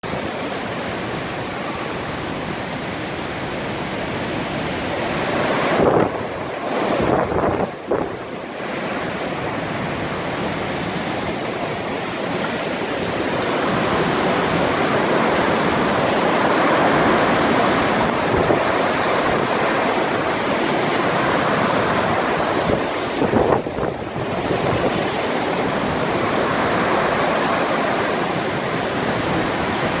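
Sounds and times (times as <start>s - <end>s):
wind buffeting microphone: 0.2s - 30.0s
storm wind rushing: 3.4s - 30.0s.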